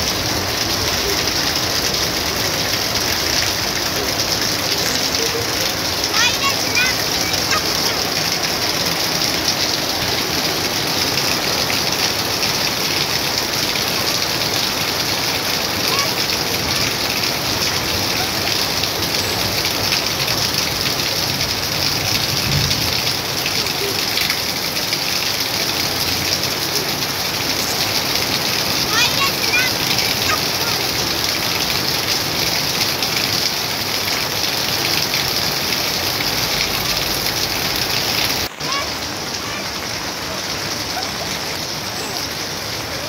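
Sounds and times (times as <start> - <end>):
rain falling on plants: 0.0 - 43.0.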